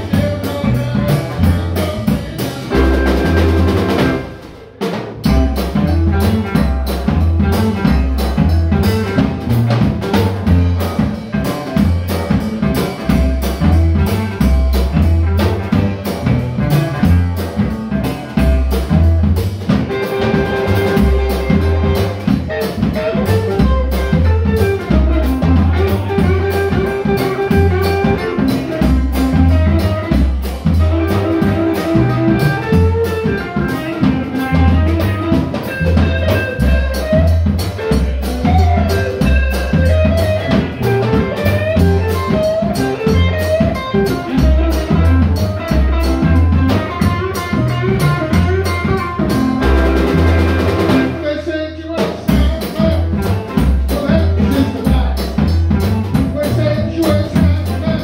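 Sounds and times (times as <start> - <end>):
blues band playing instrumental: 0.0 - 58.0.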